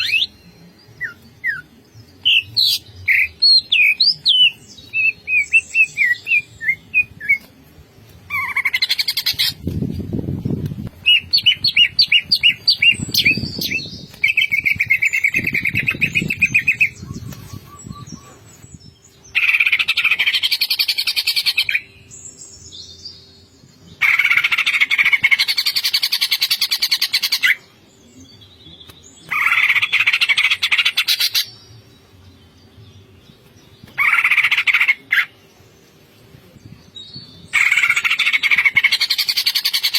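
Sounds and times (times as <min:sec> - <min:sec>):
bird trilling song: 0:00.0 - 0:07.5, 0:08.3 - 0:35.7, 0:36.6 - 0:39.9.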